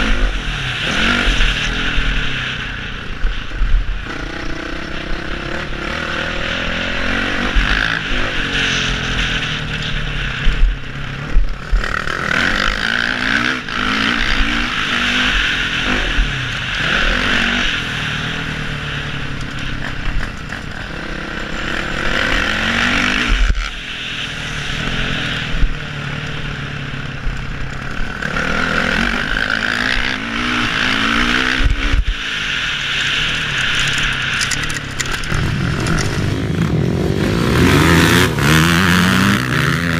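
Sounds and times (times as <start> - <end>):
motorbike engine revving: 0.0 - 39.9
wind noise: 0.0 - 39.9.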